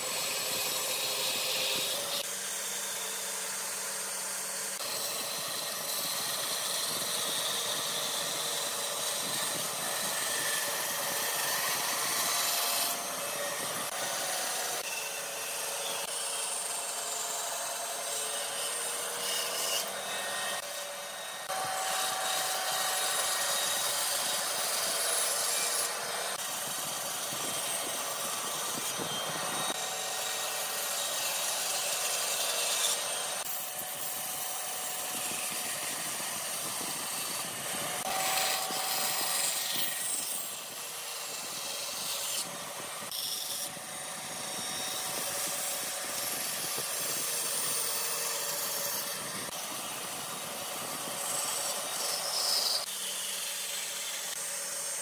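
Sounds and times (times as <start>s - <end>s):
bandsaw blade rasping through wood: 0.0s - 55.0s
saw motor hum: 0.0s - 55.0s.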